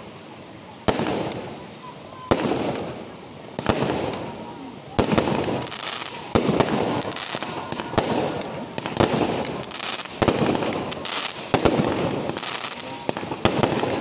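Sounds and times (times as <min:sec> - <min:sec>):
fireworks crackling: 0:00.0 - 0:14.0
fireworks bangs: 0:00.8 - 0:14.0.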